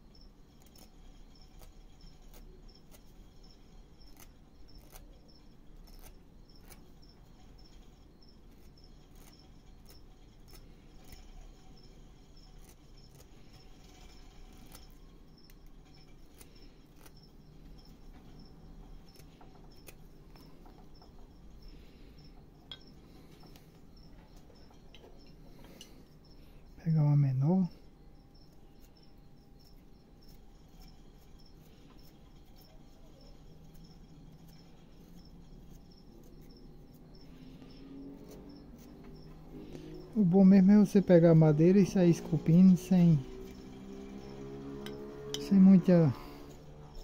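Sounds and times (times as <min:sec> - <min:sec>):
knife carving wood: 0:00.0 - 0:26.6, 0:27.2 - 0:47.0.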